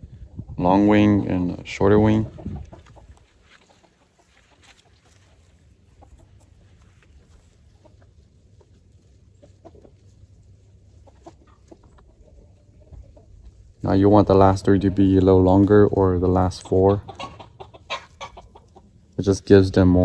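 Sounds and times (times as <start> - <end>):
birds clucking: 0.0 - 20.0.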